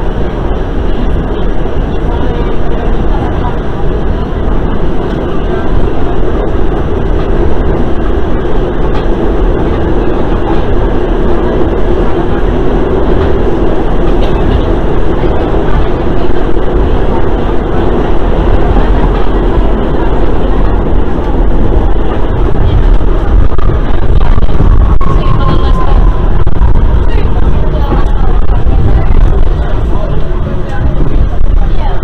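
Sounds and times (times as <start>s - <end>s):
subway train rumble and rattle: 0.0s - 32.0s.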